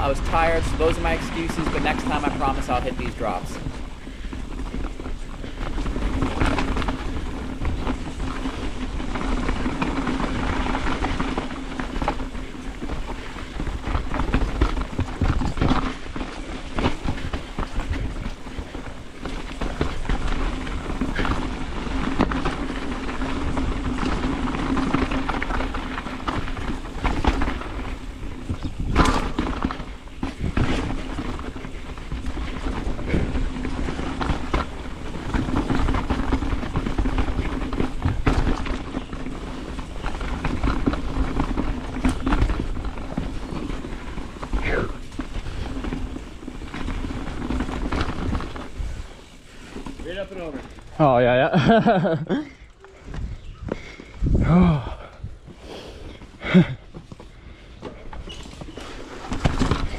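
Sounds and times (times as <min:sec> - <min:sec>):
bike knocks and rattles: 0:00.0 - 0:54.4, 0:55.3 - 0:59.9
bike tyres rushing on trail: 0:00.0 - 0:59.9.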